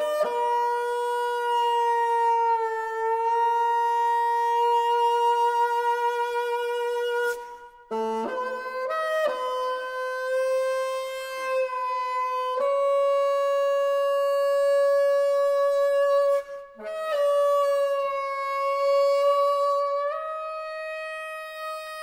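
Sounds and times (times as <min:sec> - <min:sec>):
bassoon playing long notes: 0:00.0 - 0:22.0.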